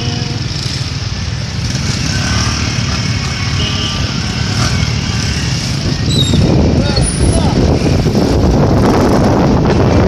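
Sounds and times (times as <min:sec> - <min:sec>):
motorcycle running: 0:00.0 - 0:10.0.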